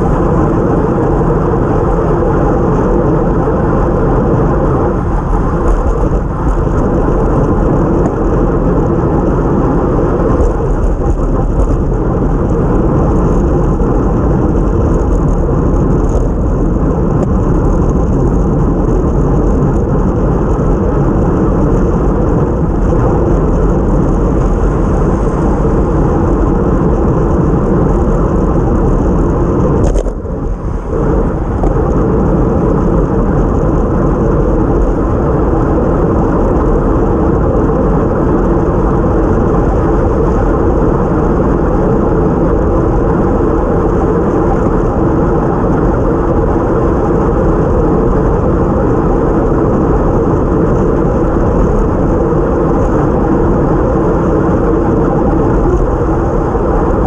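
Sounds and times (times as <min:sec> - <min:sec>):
wet road noise: 0:00.0 - 0:57.0
wind rush: 0:00.0 - 0:57.0.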